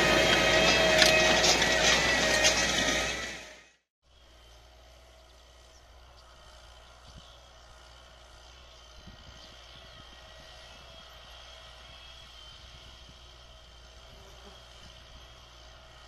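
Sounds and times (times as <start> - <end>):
distant tractor engine drone: 0.0 - 16.0.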